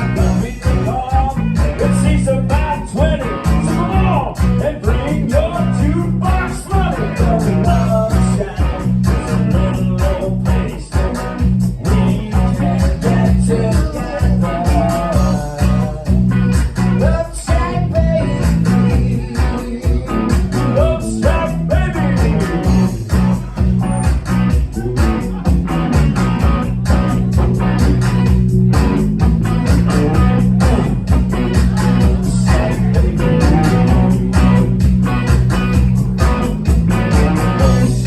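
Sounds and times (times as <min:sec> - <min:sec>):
rock song with electric guitar: 0:00.0 - 0:38.0.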